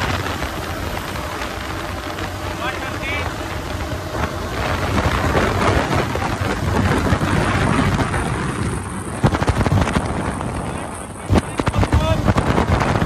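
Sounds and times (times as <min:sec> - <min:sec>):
sharp wind thumps: 0:00.0 - 0:13.0
wind buffeting microphone: 0:00.0 - 0:13.0.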